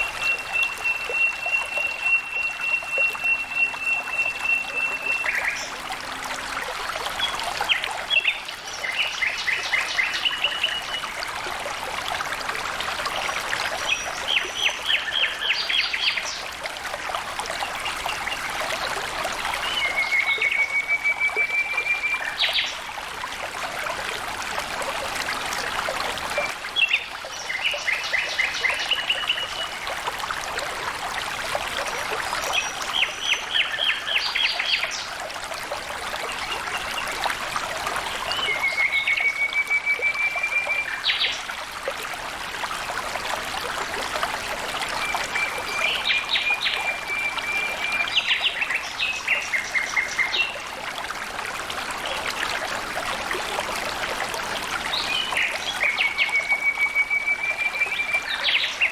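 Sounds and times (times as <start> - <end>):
water flowing and trickling: 0.0 - 58.9.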